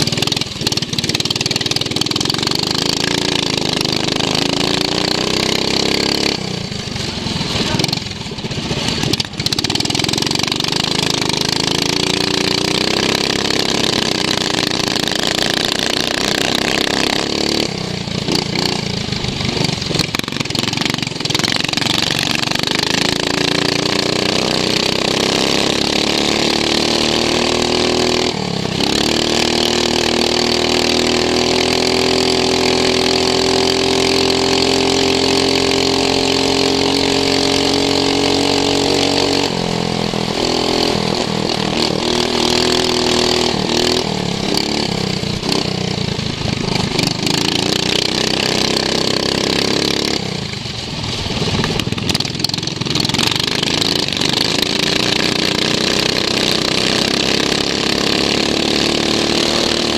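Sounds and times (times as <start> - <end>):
lawn mower engine revving: 0.0 - 59.9.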